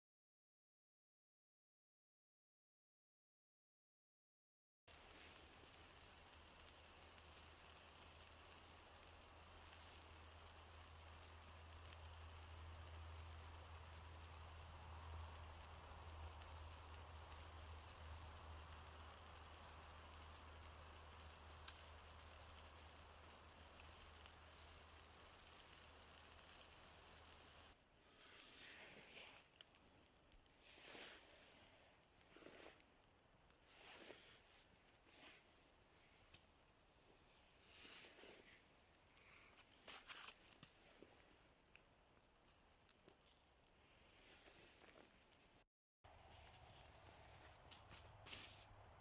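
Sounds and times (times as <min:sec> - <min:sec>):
faint crackles: 0:04.9 - 0:49.0
food sizzling on a grill: 0:04.9 - 0:49.0.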